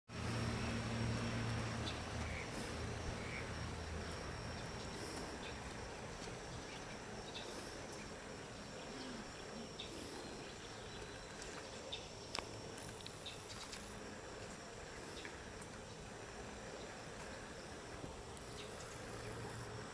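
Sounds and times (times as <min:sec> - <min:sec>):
insects trilling: 0:00.1 - 0:19.9.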